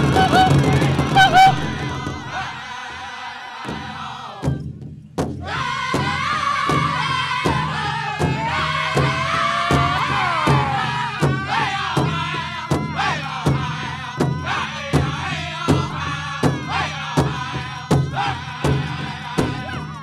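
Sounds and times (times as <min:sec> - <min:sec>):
big drum beating: 0:00.0 - 0:03.0, 0:03.6 - 0:20.0
voices singing: 0:00.0 - 0:04.7, 0:05.4 - 0:20.0.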